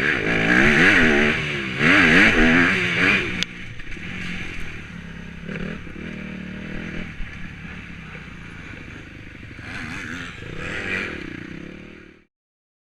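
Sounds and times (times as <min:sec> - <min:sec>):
motorbike engine running: 0:00.0 - 0:12.2.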